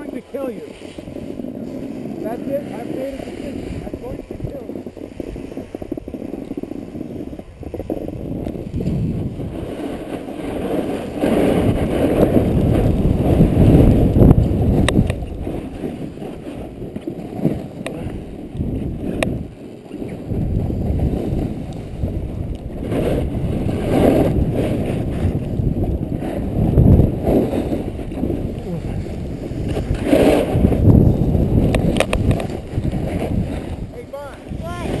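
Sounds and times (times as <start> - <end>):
skis scraping over snow: 0.0 - 35.0
wind rushing over microphone: 0.0 - 35.0.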